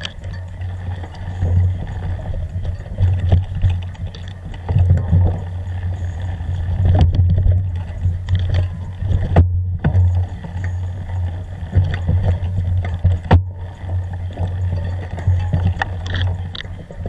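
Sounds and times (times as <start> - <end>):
low ride rumble: 0.0 - 17.0.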